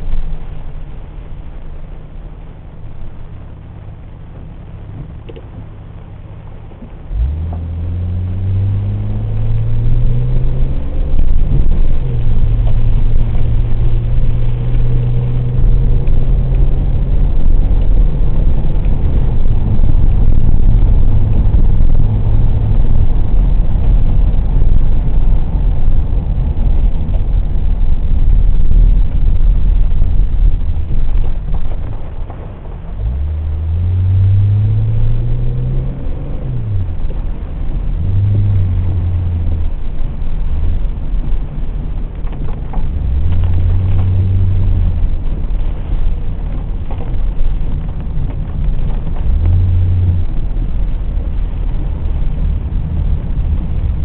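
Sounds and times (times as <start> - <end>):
car engine accelerating: 0.0 - 54.0
road and tyre noise: 0.0 - 54.0.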